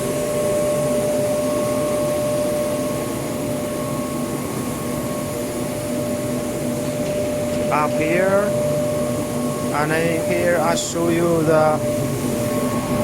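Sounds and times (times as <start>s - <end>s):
blower rushing air with whine: 0.0s - 13.0s.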